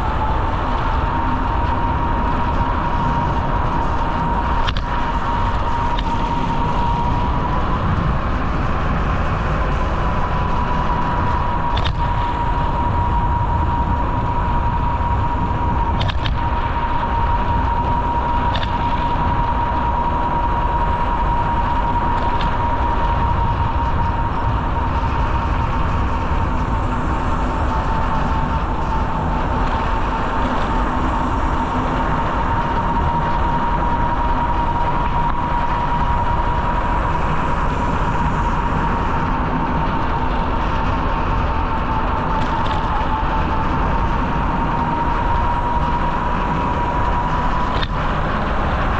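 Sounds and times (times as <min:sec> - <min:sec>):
high whine: 0:00.0 - 0:48.9
wind on microphone: 0:00.0 - 0:48.9.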